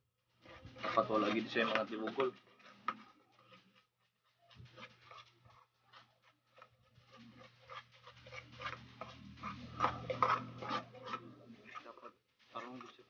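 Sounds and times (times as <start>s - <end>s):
metal utensil scraping a pot: 0.4s - 13.0s.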